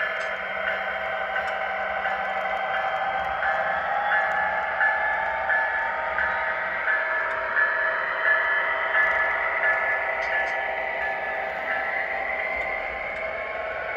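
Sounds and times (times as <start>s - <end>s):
diesel locomotive engine running: 0.0s - 13.9s
locomotive bell ringing: 0.0s - 13.9s.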